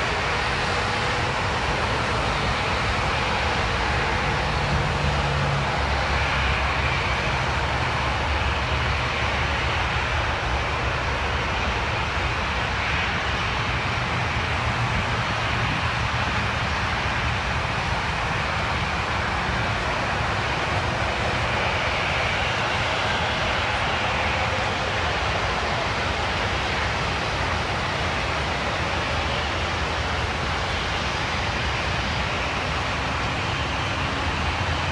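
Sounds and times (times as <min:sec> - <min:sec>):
jet engines droning: 0:00.0 - 0:34.9
road traffic passing: 0:00.0 - 0:34.9.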